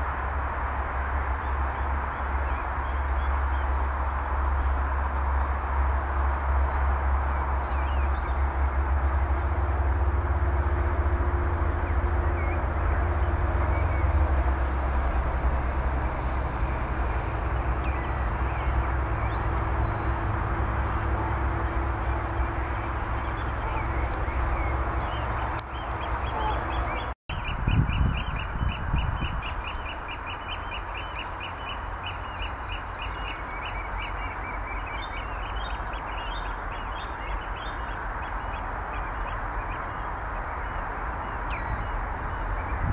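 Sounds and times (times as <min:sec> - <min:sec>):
steady rushing noise: 0:00.0 - 0:42.9.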